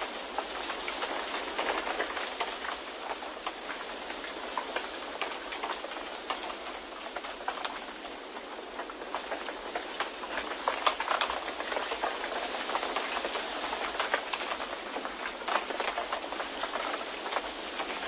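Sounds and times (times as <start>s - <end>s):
small crackles and taps: 0.0s - 18.0s.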